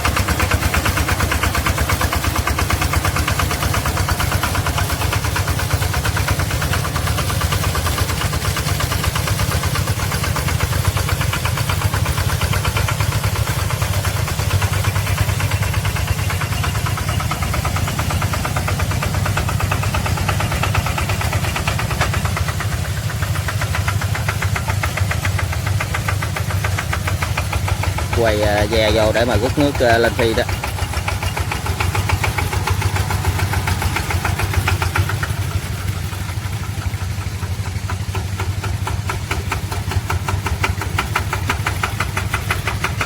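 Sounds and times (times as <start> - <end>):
sprayer engine chugging: 0.0 - 43.0.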